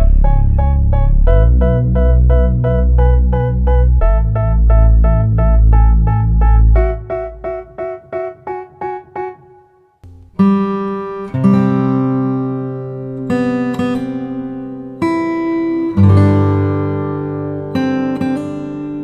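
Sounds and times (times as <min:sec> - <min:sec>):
plucked guitar notes: 0:00.0 - 0:19.0
sustained guitar chords: 0:00.0 - 0:19.0.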